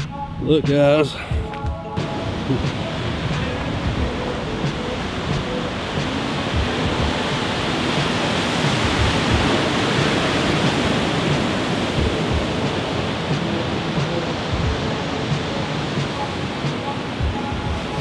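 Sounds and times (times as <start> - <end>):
ocean waves breaking on cliffs: 0.0 - 18.0.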